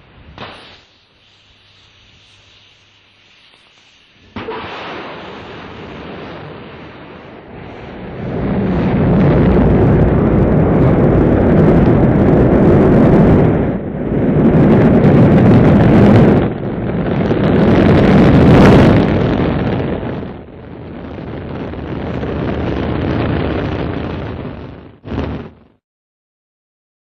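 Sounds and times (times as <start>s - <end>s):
rocket engines rumbling: 3.5s - 25.5s.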